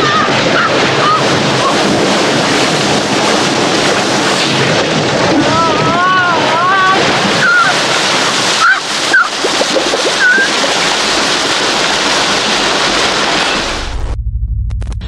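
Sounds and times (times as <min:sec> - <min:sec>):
rushing water: 0:00.0 - 0:13.9
loud splashing hits: 0:00.0 - 0:14.1.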